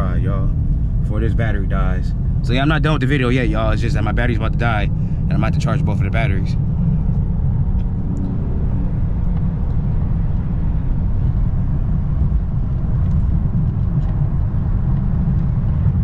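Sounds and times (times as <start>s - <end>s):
faint hum: 0.0s - 16.0s
road and engine rumble: 0.0s - 16.0s.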